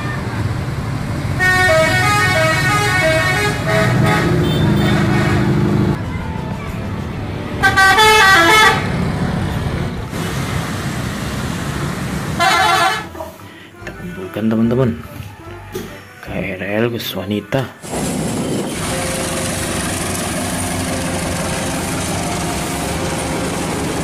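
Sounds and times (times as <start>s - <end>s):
bus engines rumbling: 0.0s - 15.7s, 17.8s - 24.0s
musical multi-tone bus horns: 1.3s - 10.2s, 12.3s - 16.6s, 17.4s - 24.0s.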